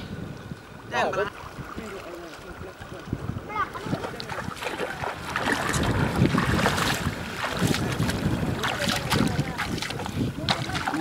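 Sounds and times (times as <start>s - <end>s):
wind buffeting microphone: 0.0s - 11.0s
seawater lapping and splashing: 0.3s - 11.0s.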